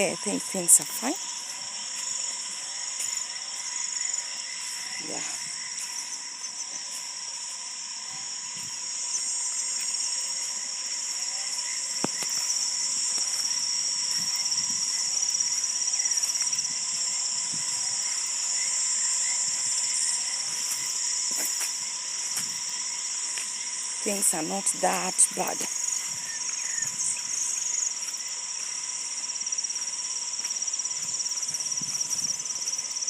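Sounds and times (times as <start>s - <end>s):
insects trilling: 0.0s - 33.0s
low insect tone: 0.0s - 33.0s.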